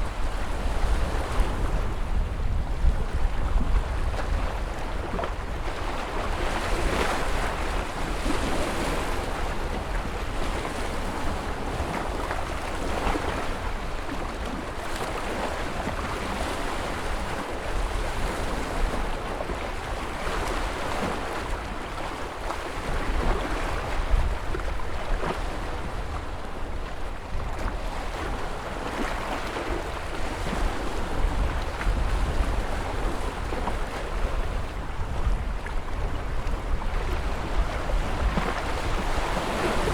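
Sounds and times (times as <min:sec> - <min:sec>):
waves breaking: 0:03.9 - 0:39.9.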